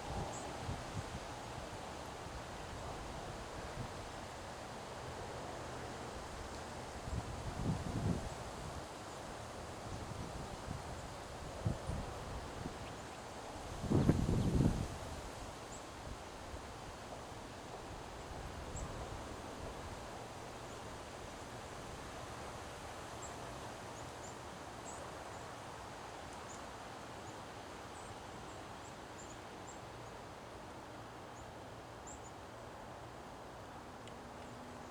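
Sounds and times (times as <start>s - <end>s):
wind through trees: 0.0s - 34.9s.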